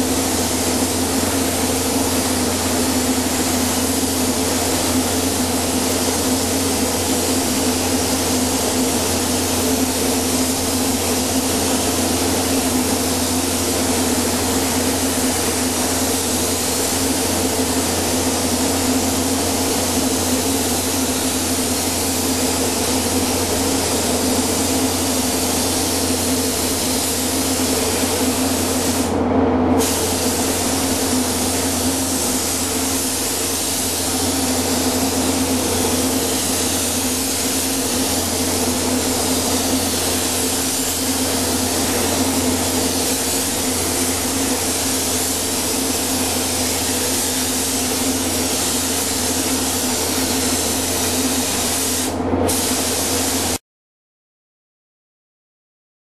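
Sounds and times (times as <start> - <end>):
paint spray gun hissing: 0.0 - 29.1, 29.8 - 53.6.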